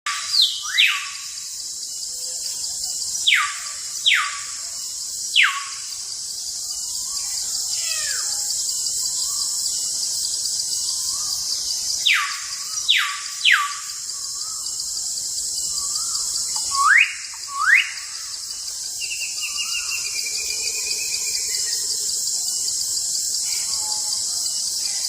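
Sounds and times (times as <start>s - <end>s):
insect drone: 0.1s - 25.0s.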